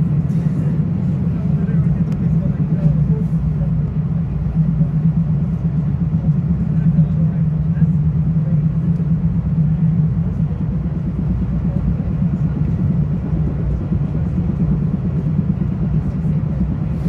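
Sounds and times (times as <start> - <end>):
constant low hum: 0.0 - 17.0
train wheels rumbling on rail: 0.0 - 17.0.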